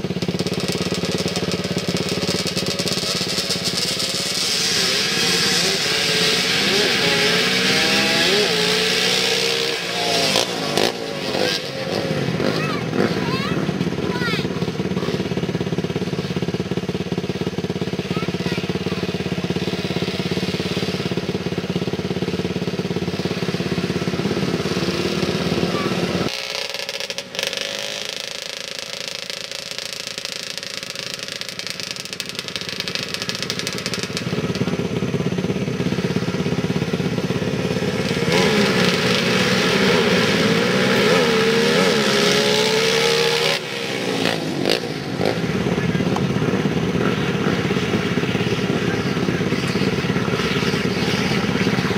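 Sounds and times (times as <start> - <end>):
atv engines revving: 0.0 - 51.9.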